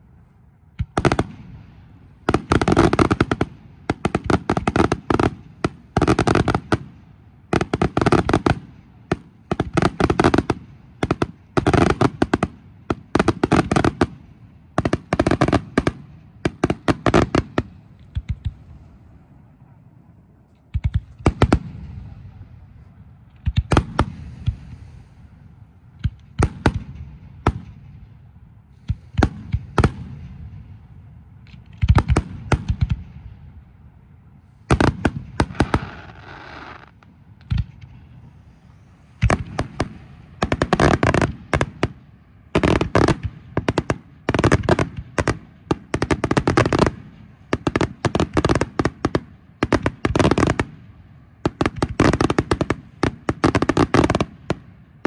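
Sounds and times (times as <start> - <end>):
fireworks bursting with booms: 0.7 - 19.1, 20.7 - 28.2, 28.8 - 33.5, 34.6 - 55.0.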